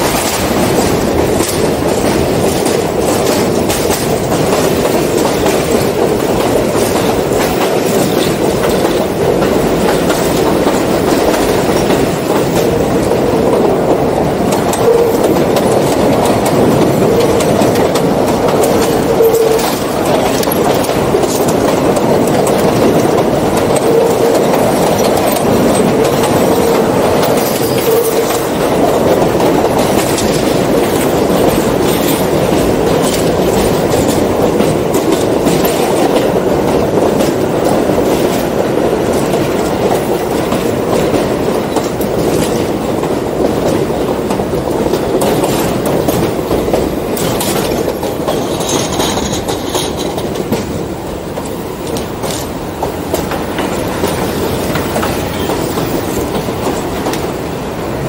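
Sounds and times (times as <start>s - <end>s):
clicks over rail joints: 0.0s - 57.6s
train wheels rumbling on rail: 0.0s - 58.0s.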